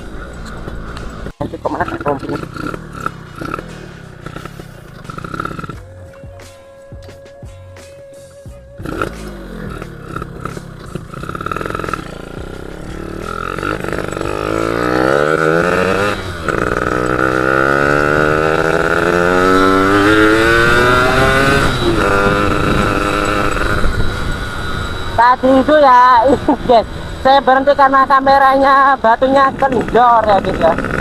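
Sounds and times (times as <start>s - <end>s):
motorcycle engine accelerating: 0.0s - 6.5s, 7.6s - 31.0s.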